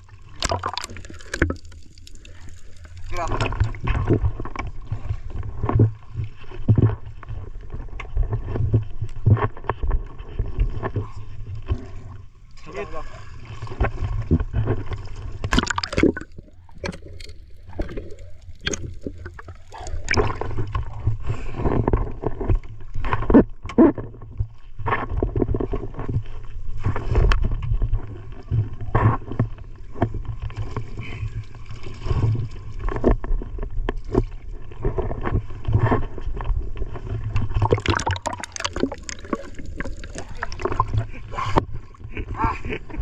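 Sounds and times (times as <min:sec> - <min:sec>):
water splashing against boat: 0:00.0 - 0:43.0.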